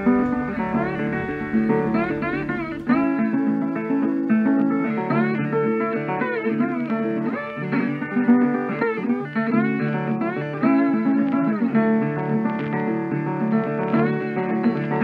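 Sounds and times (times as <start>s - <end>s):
plucked guitar tune: 0.0s - 15.0s.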